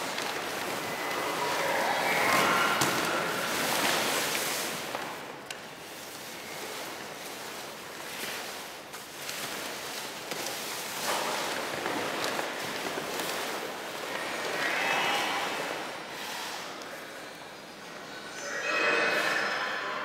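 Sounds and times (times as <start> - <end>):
paper sheets rustling and crinkling: 0.0 - 16.5.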